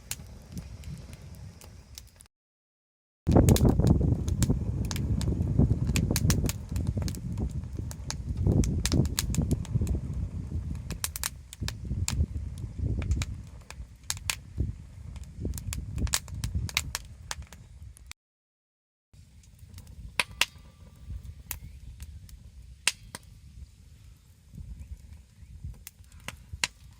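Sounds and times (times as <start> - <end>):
campfire crackling and popping: 0.0 - 2.3, 3.3 - 18.2, 19.2 - 26.9
low fire rumble: 0.0 - 2.3, 3.3 - 18.1, 19.2 - 26.9.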